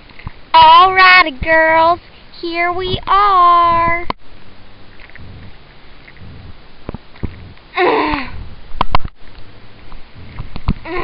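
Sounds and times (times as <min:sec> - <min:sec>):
handling noise and rumbling: 0:00.0 - 0:11.0.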